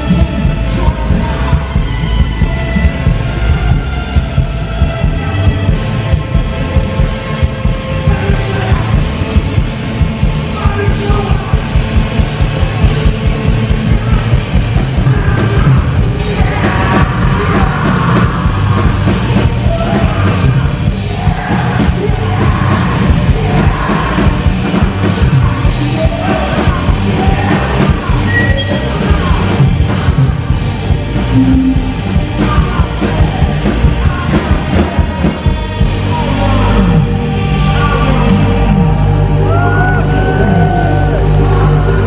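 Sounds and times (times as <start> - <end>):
pounding drum beat: 0.0 - 36.2
live rock band playing: 0.0 - 42.0.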